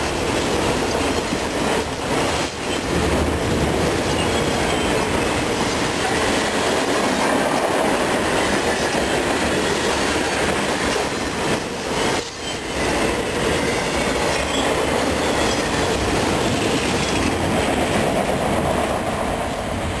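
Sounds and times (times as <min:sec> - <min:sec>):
steel wheels clattering on rails: 0:00.0 - 0:19.0
freight train rolling past: 0:00.0 - 0:20.0.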